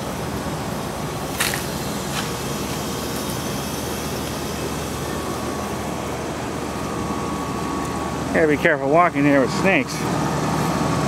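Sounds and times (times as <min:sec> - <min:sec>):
air conditioner unit hum: 0:00.0 - 0:11.0
fan air rushing: 0:00.0 - 0:11.0.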